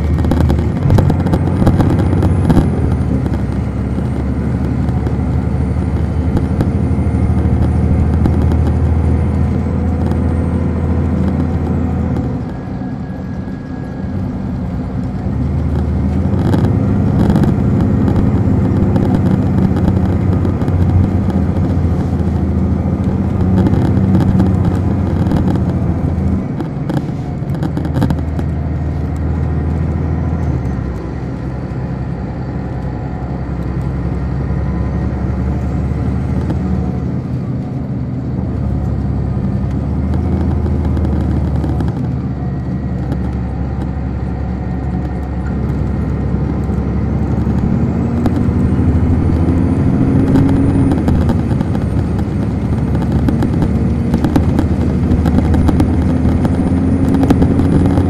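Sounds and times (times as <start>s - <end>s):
diesel bus engine running: 0.0s - 58.0s.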